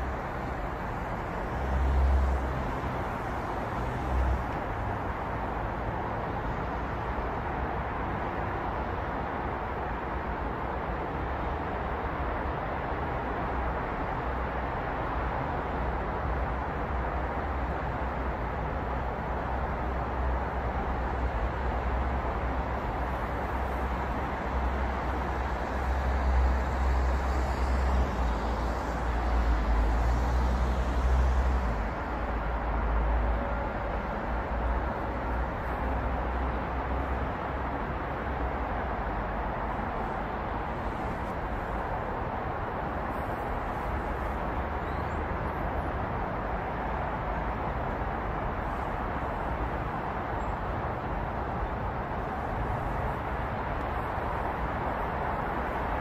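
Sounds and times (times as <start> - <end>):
low traffic rumble: 0.0 - 56.0
passing cars: 0.0 - 56.0.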